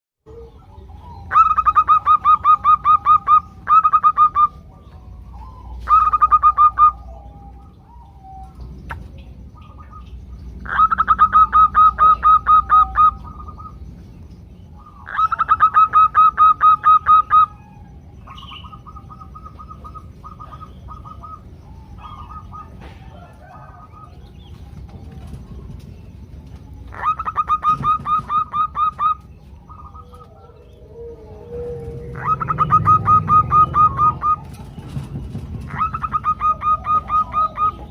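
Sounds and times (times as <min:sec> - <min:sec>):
doves calling in rapid notes: 0:00.3 - 0:37.9.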